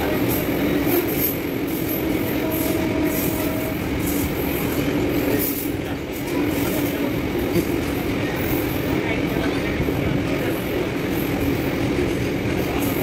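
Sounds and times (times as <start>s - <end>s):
steel wheels rolling on rails: 0.0s - 13.0s.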